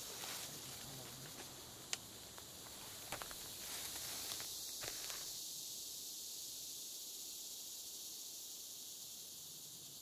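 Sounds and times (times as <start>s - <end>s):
insect chorus hiss: 0.0s - 10.0s.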